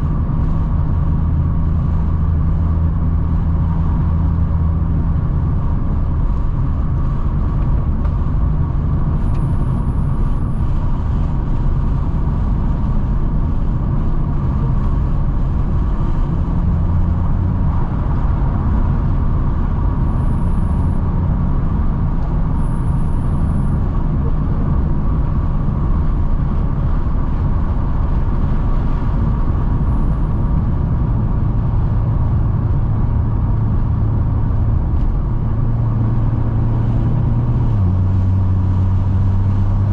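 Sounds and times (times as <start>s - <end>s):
car engine drone: 0.0s - 39.9s
tyre road rumble: 0.0s - 39.9s.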